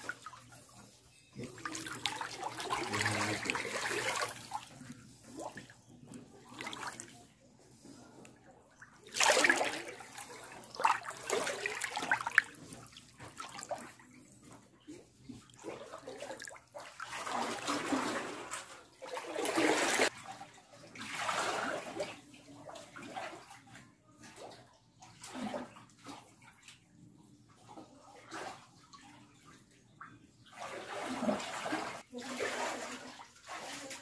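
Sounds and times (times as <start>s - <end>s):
water splashing and sloshing: 0.0s - 34.0s.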